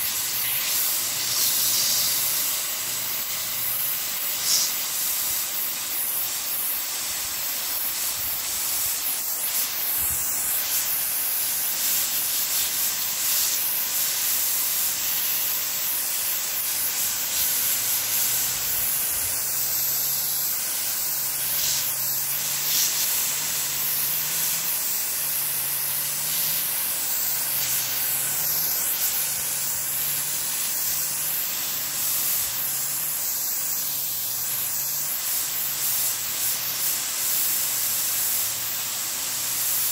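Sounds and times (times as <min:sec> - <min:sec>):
water spray hissing: 0:00.0 - 0:39.9.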